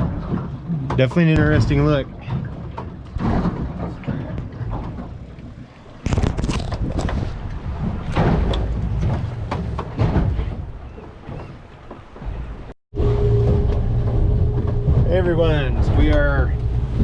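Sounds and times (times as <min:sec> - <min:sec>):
rough water noise: 0:00.0 - 0:17.0
wind buffeting microphone: 0:00.0 - 0:17.0.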